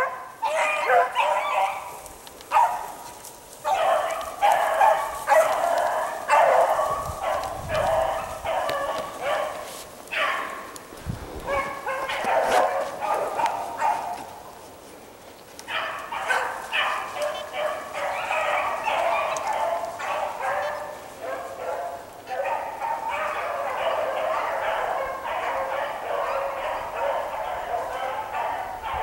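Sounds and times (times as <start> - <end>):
hounds baying: 0.0 - 14.6, 15.6 - 29.0.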